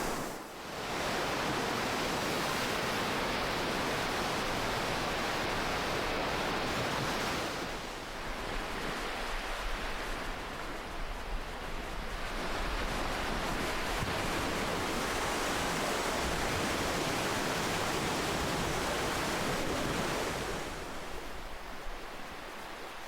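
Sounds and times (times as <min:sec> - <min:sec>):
ocean waves surf hiss: 0:00.0 - 0:23.0.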